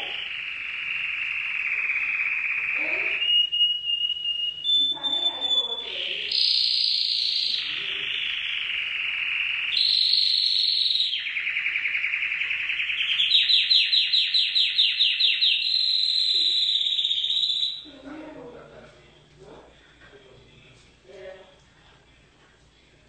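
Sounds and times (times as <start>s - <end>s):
canary singing trills: 0.0s - 18.5s.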